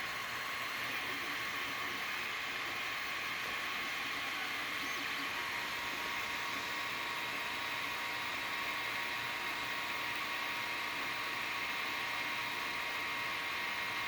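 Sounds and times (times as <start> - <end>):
printer fan hiss: 0.0 - 14.0.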